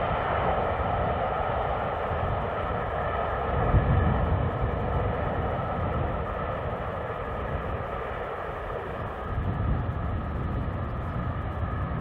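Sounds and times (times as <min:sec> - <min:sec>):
distant steam train roar: 0:00.0 - 0:12.0
wind buffeting microphone: 0:00.0 - 0:12.0.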